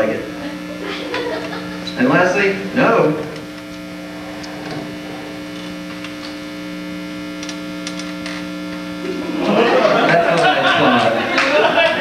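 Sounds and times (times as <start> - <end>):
electrical mains buzz: 0.0 - 12.0.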